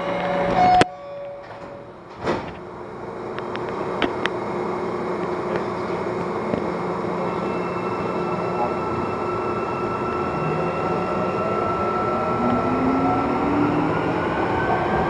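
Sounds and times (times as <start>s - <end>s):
train rumbling in tunnel: 0.0s - 15.0s.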